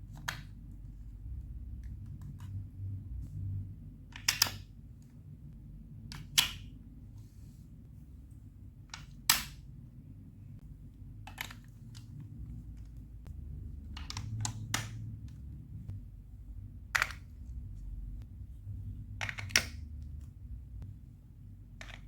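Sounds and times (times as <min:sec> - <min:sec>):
faint low rumble: 0:00.0 - 0:22.0.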